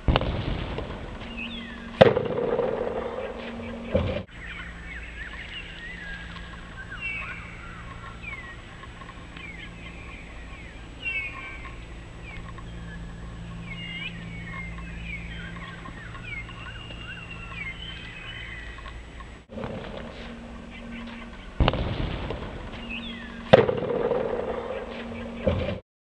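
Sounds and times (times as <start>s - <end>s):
steady low hum: 0.0s - 25.8s
wild birds chirping and singing: 0.9s - 25.8s.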